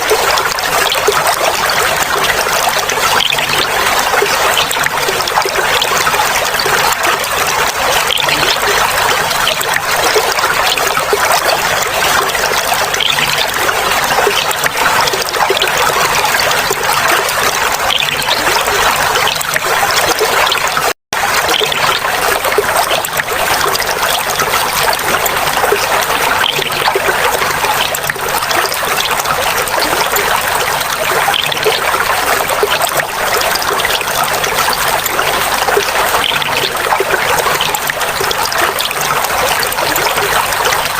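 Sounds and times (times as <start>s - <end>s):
water trickling and flowing: 0.0s - 40.9s.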